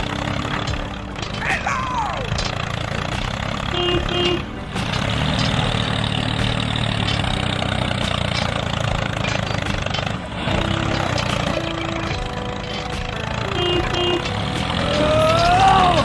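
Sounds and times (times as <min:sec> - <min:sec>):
toy excavator motor running: 0:02.2 - 0:16.0.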